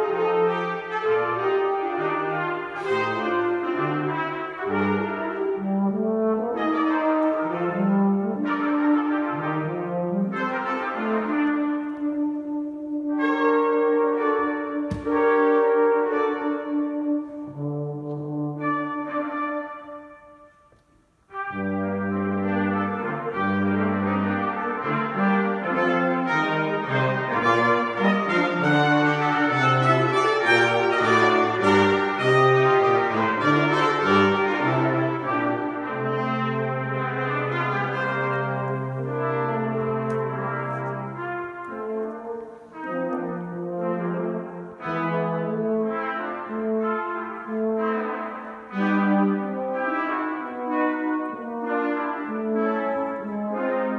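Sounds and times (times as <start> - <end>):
brass quartet playing: 0.0 - 53.9
tuba low notes: 0.0 - 53.9.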